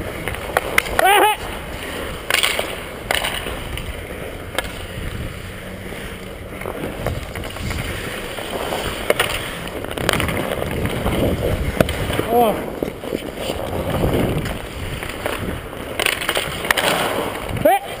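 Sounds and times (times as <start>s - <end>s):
skate blades scraping on ice: 0.0s - 18.0s.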